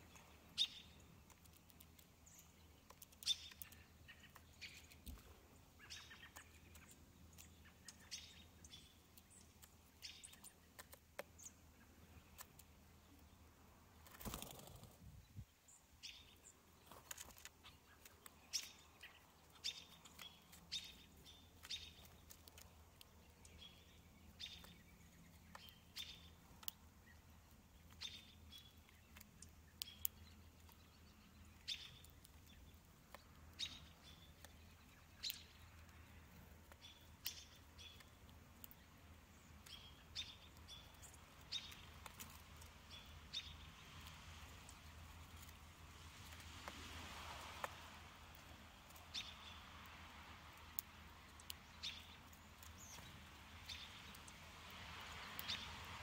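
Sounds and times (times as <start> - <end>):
small birds chip calls: 0.0 - 56.0.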